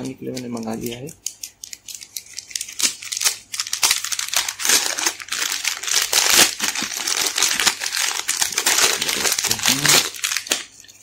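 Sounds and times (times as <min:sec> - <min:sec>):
plastic bag crinkling: 0:01.7 - 0:11.0.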